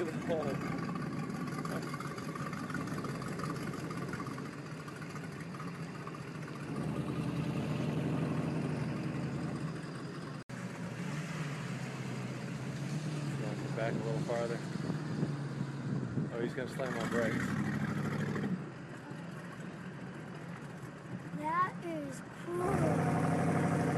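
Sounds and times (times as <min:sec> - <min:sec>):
vehicle engine humming: 0:00.0 - 0:23.9.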